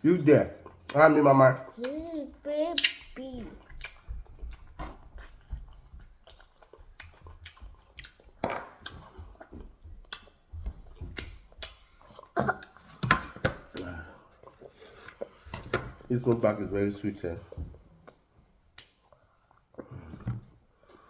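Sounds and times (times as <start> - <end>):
people chewing and eating: 0.0 - 21.0.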